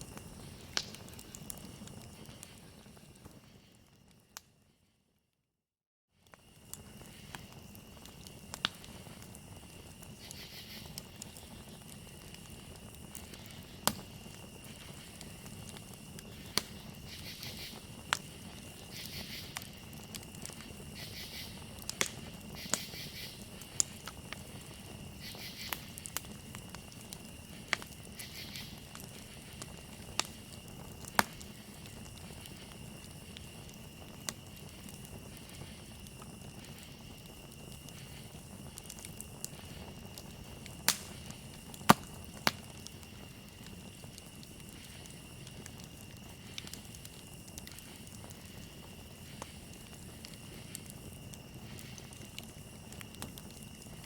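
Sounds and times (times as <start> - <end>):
burning wood popping: 0.0 - 4.5, 6.2 - 54.0
crickets trilling: 0.0 - 4.8, 6.2 - 54.0
campfire crackling: 0.0 - 4.9, 6.2 - 54.0.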